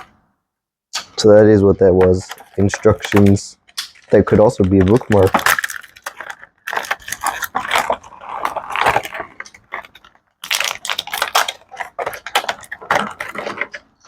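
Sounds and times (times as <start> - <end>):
packaging crinkling and rustling: 2.0 - 14.0.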